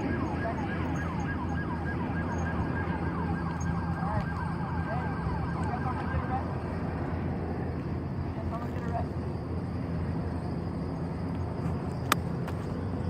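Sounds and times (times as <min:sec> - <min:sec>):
siren in falling sweeps: 0:00.0 - 0:11.7
low engine rumble: 0:00.0 - 0:13.0.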